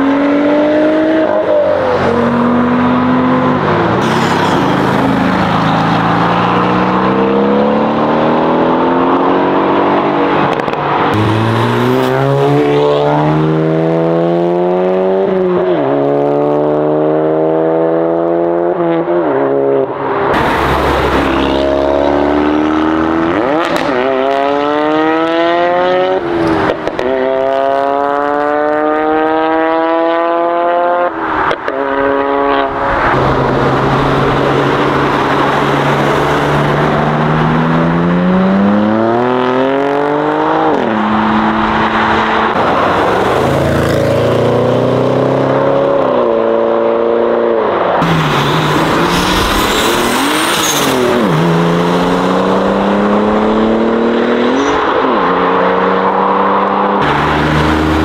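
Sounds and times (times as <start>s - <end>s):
car engines revving and accelerating: 0.0s - 58.0s.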